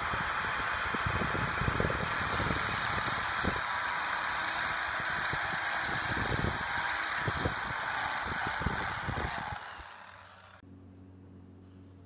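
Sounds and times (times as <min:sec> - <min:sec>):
power drill boring through metal: 0:00.0 - 0:10.6.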